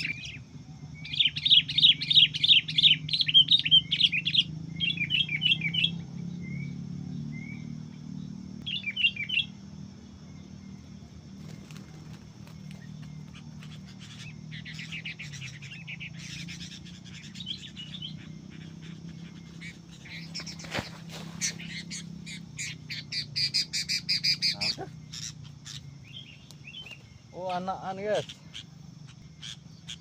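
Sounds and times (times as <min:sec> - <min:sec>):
bulbul chirping: 0:00.0 - 0:09.6, 0:11.9 - 0:30.0
steady low hum: 0:00.0 - 0:30.0.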